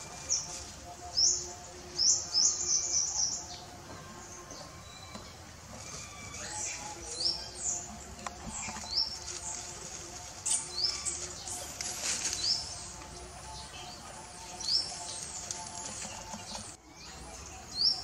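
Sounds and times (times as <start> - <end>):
rustling in dry leaves: 0.0 - 18.0.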